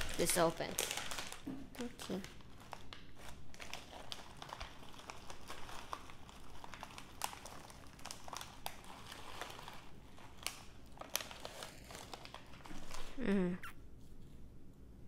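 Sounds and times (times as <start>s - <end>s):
plastic snack bag crinkling: 0.0s - 13.2s.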